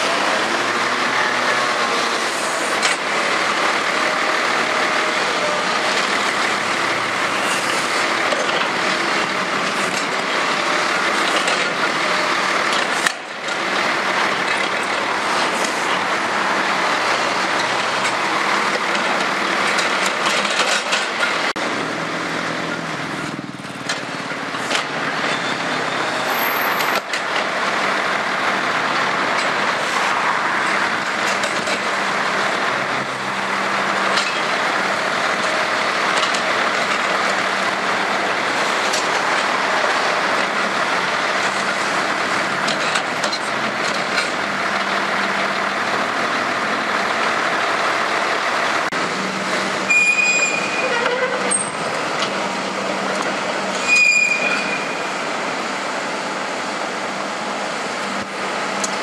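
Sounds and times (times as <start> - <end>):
excavator diesel engine running: 0.0 - 59.0
street traffic: 0.0 - 59.0.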